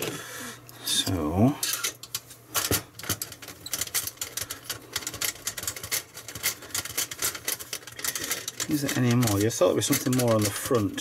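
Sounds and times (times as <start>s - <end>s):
light clicking and rattling: 1.6s - 11.0s.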